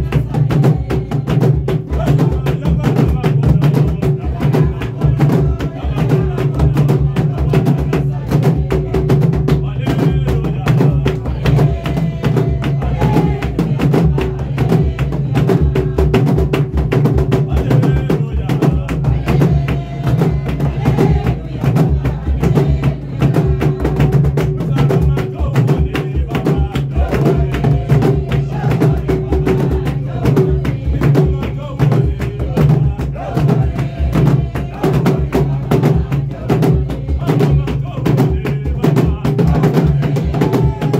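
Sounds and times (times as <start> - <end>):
large drums beating: 0.0 - 40.9
voices chanting: 0.0 - 40.9.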